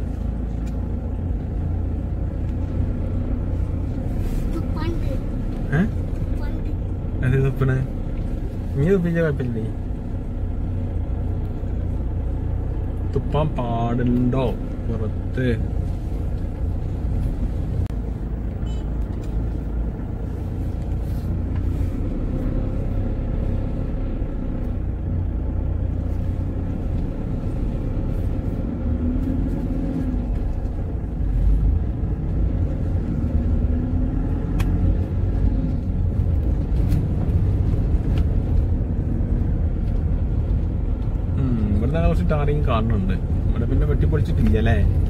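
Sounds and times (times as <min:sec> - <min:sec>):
engine and tyres rumbling: 0:00.0 - 0:45.0.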